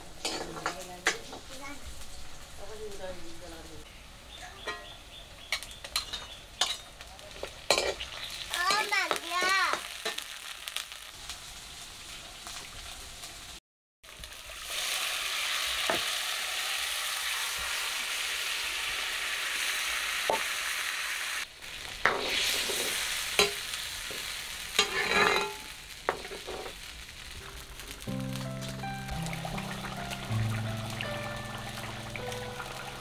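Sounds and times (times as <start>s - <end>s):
pumpkin sizzling in hot oil: 0.0s - 33.0s.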